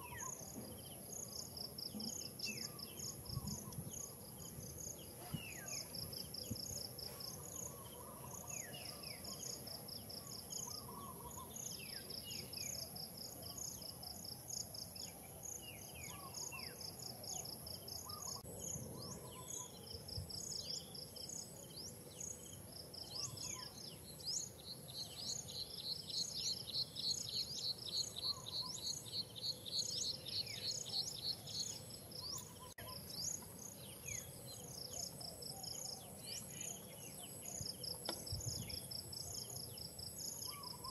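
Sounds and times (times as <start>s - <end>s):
birds chirping: 0.0s - 40.9s
insects whining and trilling: 0.0s - 40.9s.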